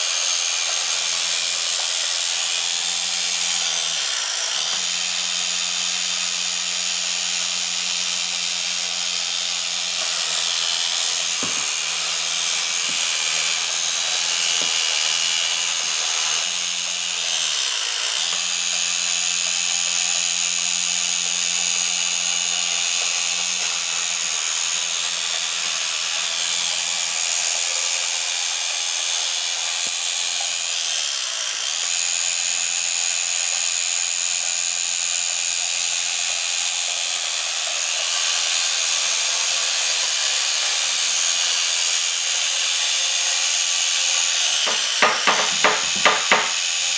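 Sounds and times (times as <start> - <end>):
toy car motor whirring: 0.0 - 46.9.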